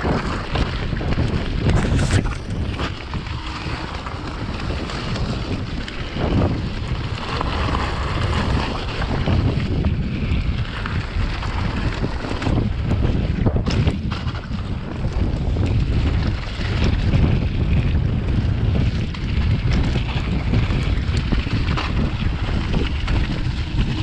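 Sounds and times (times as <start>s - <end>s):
tyres rumbling on rocky ground: 0.0s - 24.0s
wind buffeting microphone: 0.0s - 24.0s.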